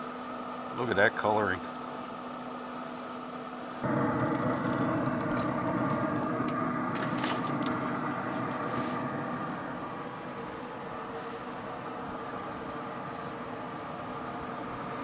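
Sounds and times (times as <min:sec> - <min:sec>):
grill fan humming: 0:00.0 - 0:15.0.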